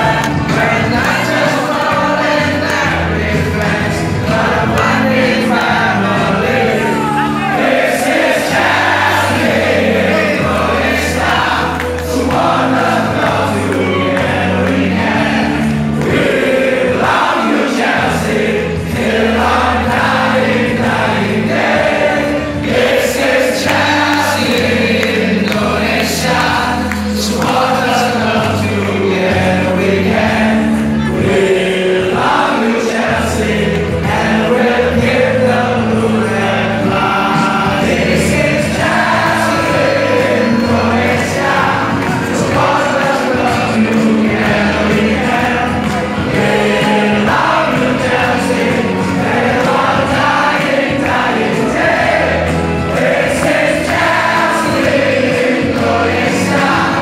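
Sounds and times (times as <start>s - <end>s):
crowd singing a chant: 0.0s - 57.0s
music with steady bass notes: 0.0s - 57.0s.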